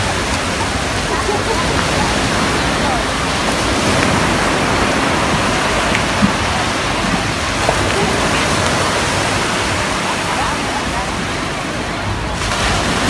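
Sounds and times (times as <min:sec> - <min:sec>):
small waves breaking on beach: 0:00.0 - 0:13.0.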